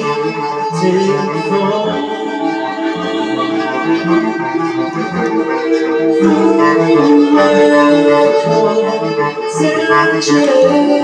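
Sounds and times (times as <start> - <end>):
low pulse: 0.0 - 10.1
cello bowing: 0.0 - 11.0
violin bowing: 0.0 - 11.0.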